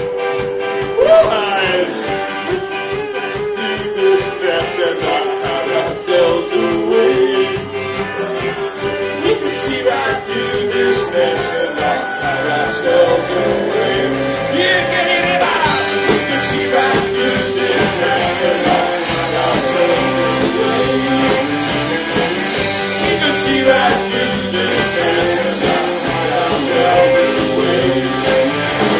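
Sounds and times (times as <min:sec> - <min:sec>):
drums and cymbals: 0:00.0 - 0:28.9
live rock band playing: 0:00.0 - 0:28.9
sustained guitar notes: 0:00.0 - 0:28.9.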